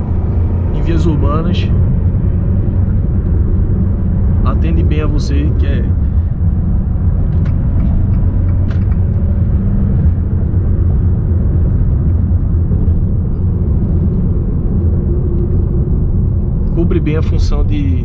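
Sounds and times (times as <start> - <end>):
diesel engine rumble: 0.0 - 18.0
road noise: 0.0 - 18.0.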